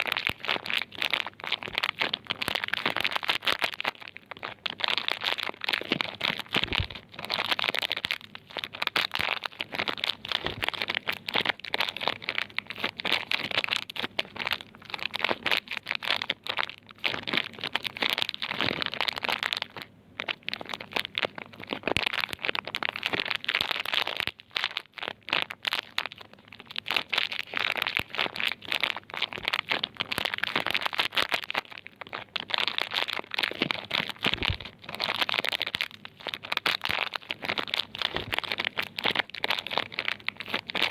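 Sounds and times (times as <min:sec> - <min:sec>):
soap wrapping crinkling: 0:00.0 - 0:40.9.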